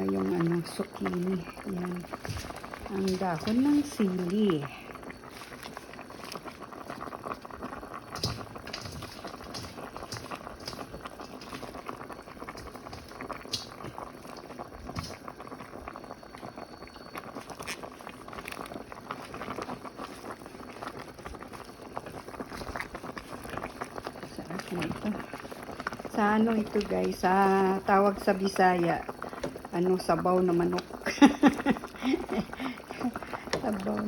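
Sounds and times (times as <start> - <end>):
soup boiling and bubbling: 0.0 - 34.0.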